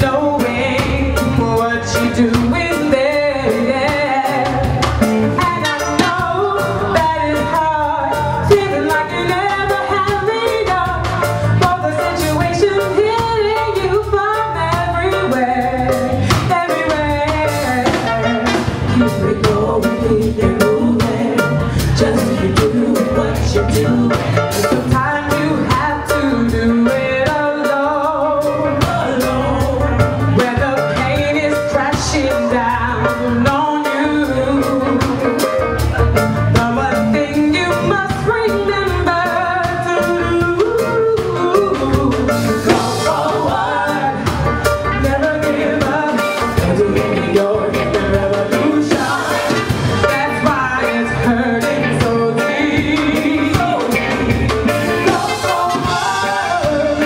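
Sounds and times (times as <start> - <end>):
person singing: 0.0 - 57.0
reggae band playing: 0.0 - 57.0.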